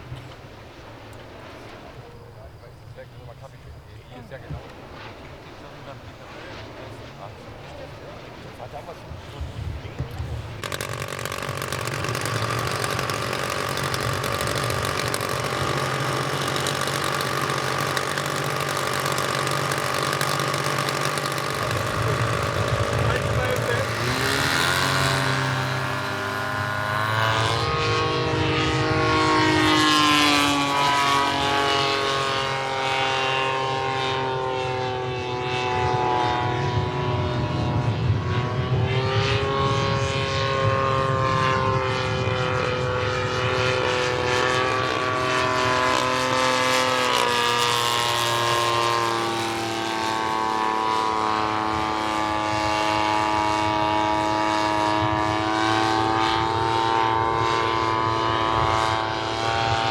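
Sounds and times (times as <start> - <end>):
model airplane engine and propeller: 0.0 - 59.9.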